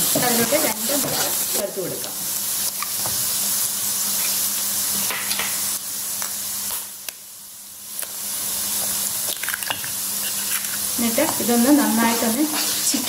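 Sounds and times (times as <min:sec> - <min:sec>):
oil sizzling in a frying pan: 0:00.0 - 0:13.0.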